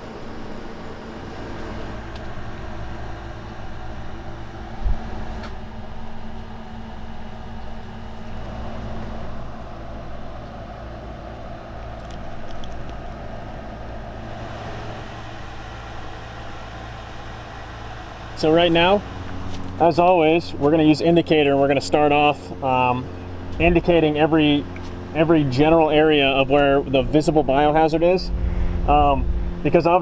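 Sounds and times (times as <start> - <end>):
low mechanical motor hum: 0.0 - 30.0.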